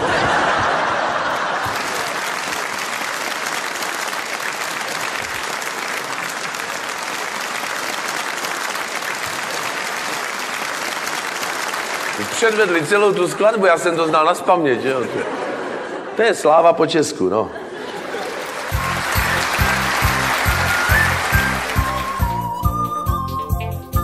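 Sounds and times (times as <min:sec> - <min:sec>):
audience applause: 0:00.0 - 0:14.1, 0:17.8 - 0:23.0.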